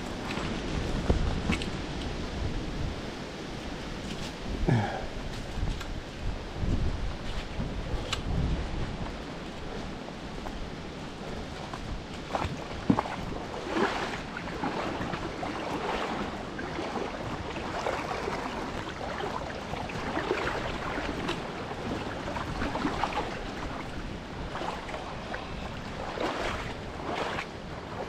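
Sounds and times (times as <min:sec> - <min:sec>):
river rushing and splashing: 0:00.0 - 0:28.0
wind buffeting microphone: 0:00.0 - 0:28.0.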